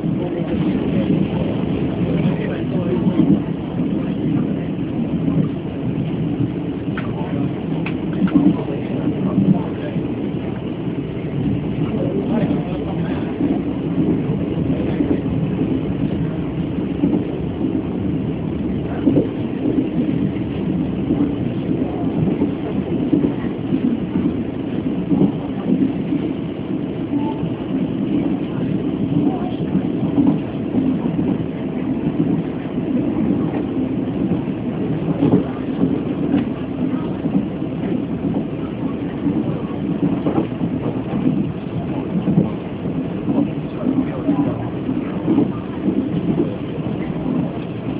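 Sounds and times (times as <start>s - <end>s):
train carriage rumbling on track: 0.0s - 47.9s.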